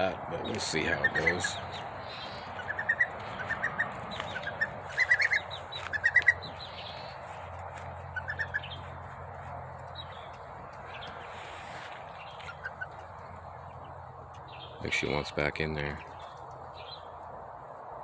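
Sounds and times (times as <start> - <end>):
bird chirping: 0.0 - 17.4.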